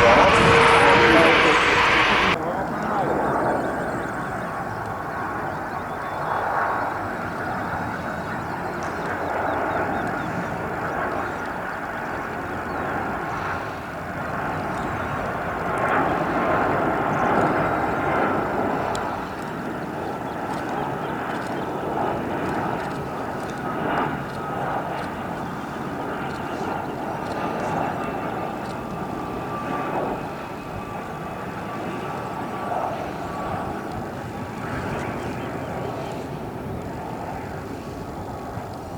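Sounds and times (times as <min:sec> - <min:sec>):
aircraft engines droning: 0:00.0 - 0:38.9.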